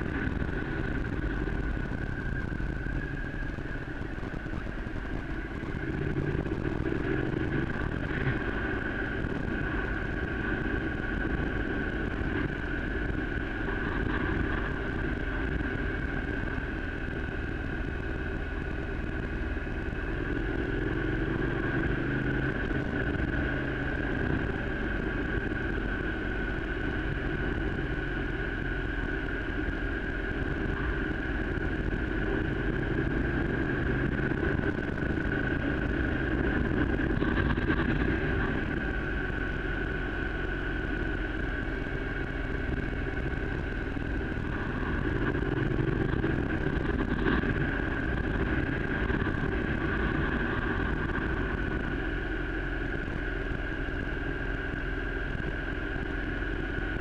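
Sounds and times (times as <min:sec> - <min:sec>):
high whine: 0:00.0 - 0:57.0
vehicle engine and road noise: 0:00.0 - 0:57.0.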